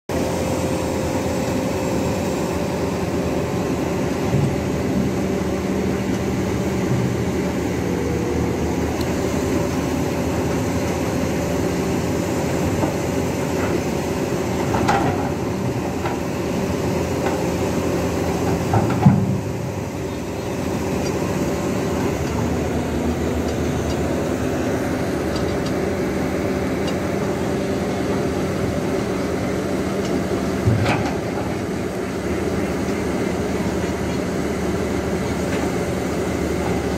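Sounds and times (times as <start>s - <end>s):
excavator diesel engine running: 0.1s - 36.9s.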